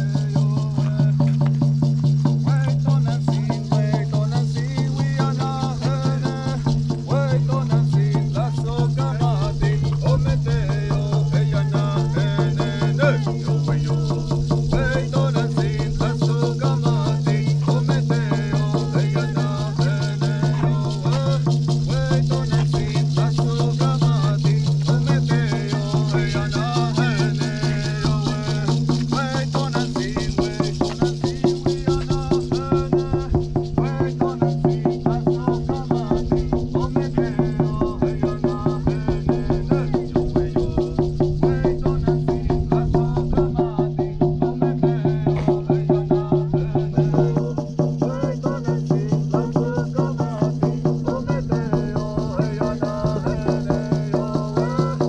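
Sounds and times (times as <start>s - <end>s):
steady drumbeat: 0.0s - 55.0s
voices singing: 0.0s - 55.0s.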